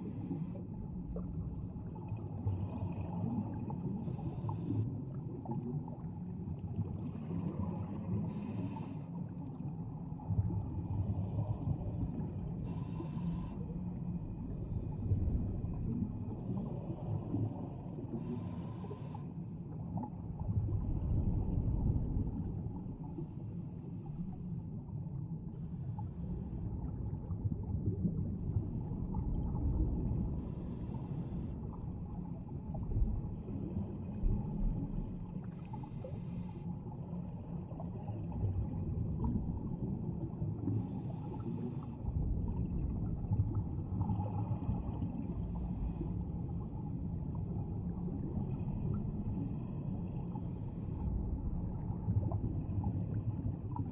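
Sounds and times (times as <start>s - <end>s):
low underwater rumble: 0.0s - 53.9s.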